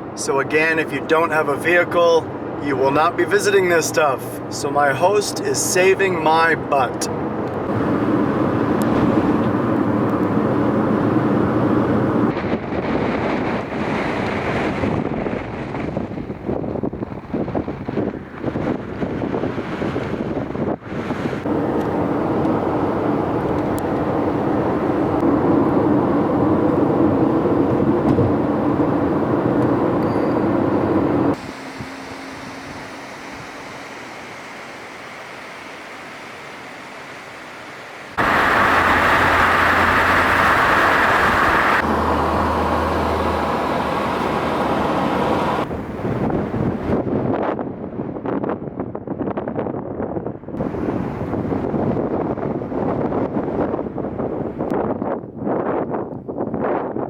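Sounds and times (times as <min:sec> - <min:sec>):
car engine and tyre noise: 0:00.0 - 0:56.8.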